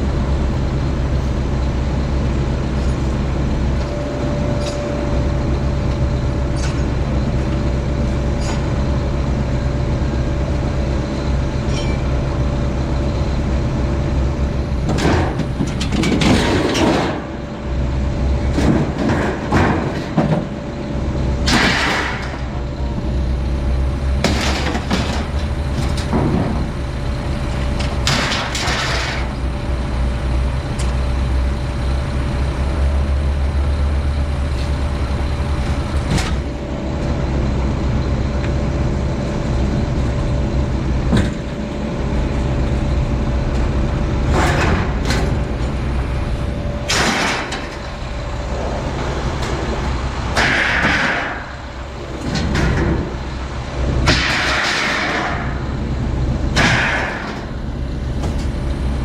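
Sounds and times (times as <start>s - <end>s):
engine humming: 0.0s - 59.0s.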